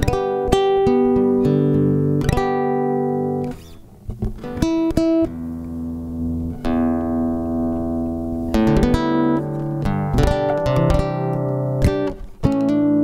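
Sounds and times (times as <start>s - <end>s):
guitar chords ringing: 0.0s - 13.0s
nylon-string guitar plucked notes: 0.0s - 13.0s.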